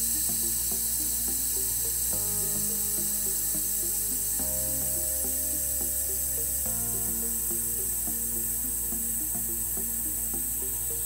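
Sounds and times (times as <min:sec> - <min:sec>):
background music with chords: 0:00.0 - 0:11.0.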